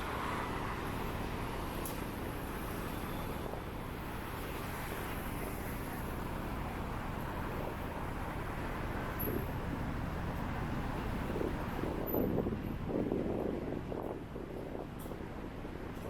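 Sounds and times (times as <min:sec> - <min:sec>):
cars passing on street: 0:00.0 - 0:16.0.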